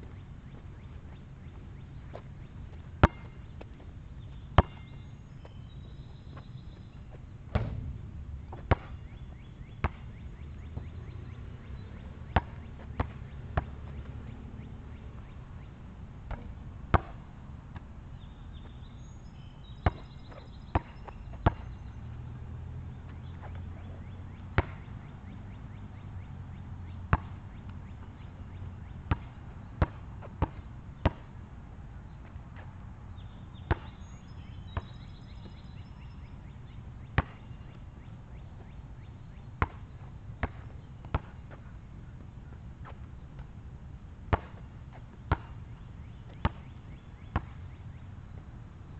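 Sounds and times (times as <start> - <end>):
basketball bouncing on asphalt: 0.0 - 31.4, 33.2 - 43.6, 44.2 - 48.9.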